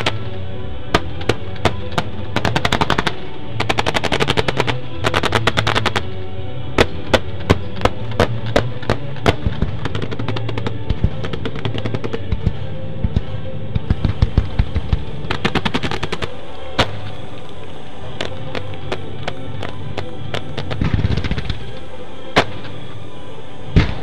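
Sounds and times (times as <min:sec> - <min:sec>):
firework shots cracking: 0:00.0 - 0:06.1, 0:06.8 - 0:22.9
music: 0:00.0 - 0:24.0.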